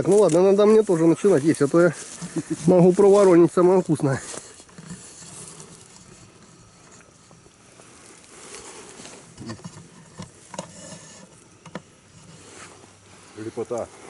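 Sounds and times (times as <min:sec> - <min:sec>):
light rustles: 0:00.0 - 0:14.0
low steady background hiss: 0:00.0 - 0:14.0.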